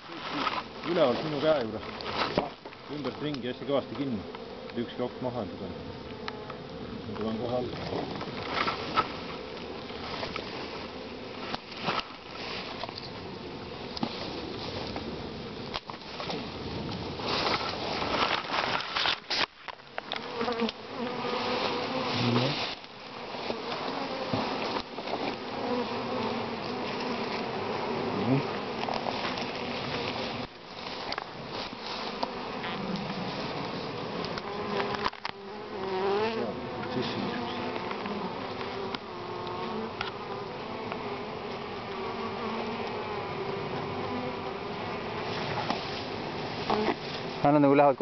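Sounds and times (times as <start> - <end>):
bee swarm buzzing: 0.0 - 48.0.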